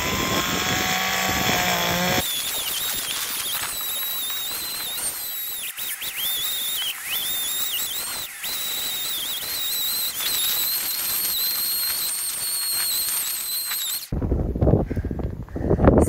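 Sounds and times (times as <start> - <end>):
chainsaw running at high revs: 0.0 - 14.1.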